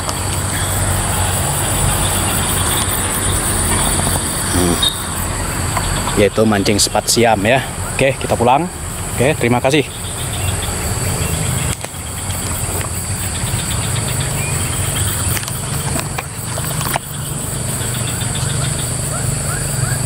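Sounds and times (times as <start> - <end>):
high-pitched insect drone: 0.0 - 20.0
low engine-like hum: 0.0 - 20.0.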